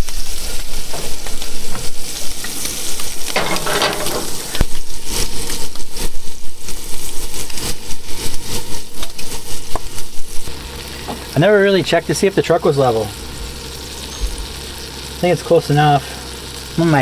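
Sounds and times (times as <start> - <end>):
crackles and knocks: 0.0 - 15.2
frying pan sizzling: 0.0 - 17.0.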